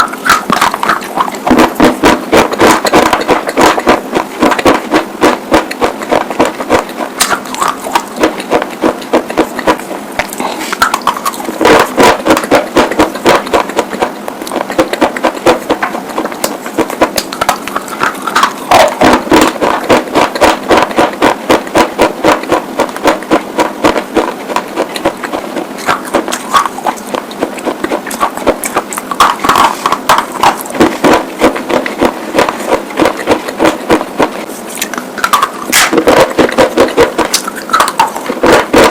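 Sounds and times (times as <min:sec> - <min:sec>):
chewing with loud crunching: 0:00.0 - 0:38.9.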